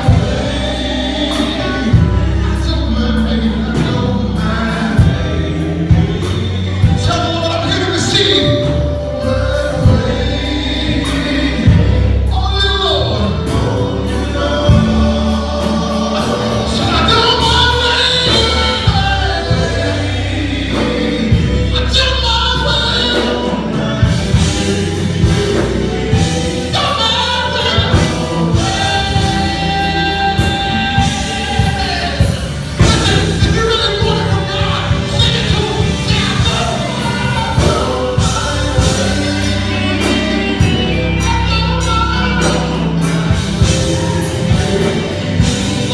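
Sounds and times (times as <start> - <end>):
band with steady beat: 0.0 - 45.9
gospel choir singing: 0.0 - 45.9.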